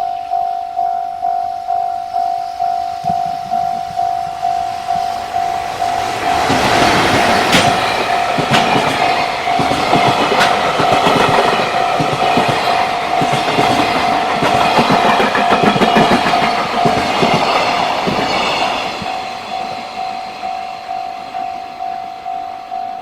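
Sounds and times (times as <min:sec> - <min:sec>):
crossing warning bell ringing: 0:00.0 - 0:23.0
train wheels clattering on rails: 0:03.0 - 0:22.4.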